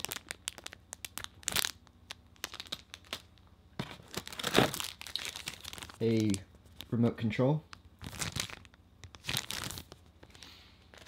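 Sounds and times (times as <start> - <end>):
plastic bags crinkling: 0.0 - 7.1, 7.8 - 11.0.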